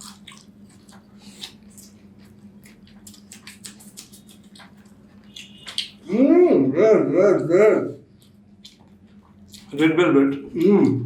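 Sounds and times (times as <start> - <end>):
chewing and mouth smacking: 0.0 - 6.2, 8.0 - 11.0
faint steady hum: 0.0 - 11.0.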